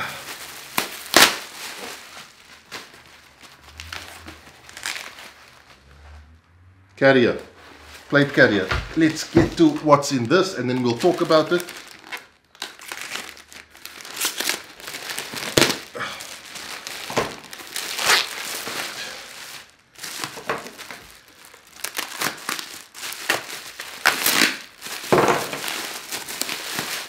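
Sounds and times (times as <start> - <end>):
plastic packaging crinkling: 0.0 - 5.9, 8.0 - 27.0
plastic ripping: 0.0 - 5.9, 8.5 - 27.0.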